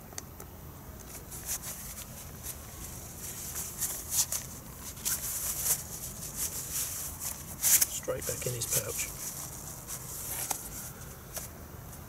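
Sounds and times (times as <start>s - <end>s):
fabric rustling: 1.1s - 12.0s.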